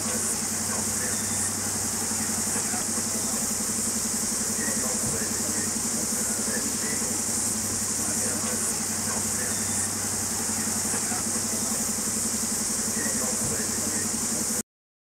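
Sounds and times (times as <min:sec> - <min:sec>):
constant high hiss: 0:00.0 - 0:14.6
diesel engine idling: 0:00.0 - 0:14.6.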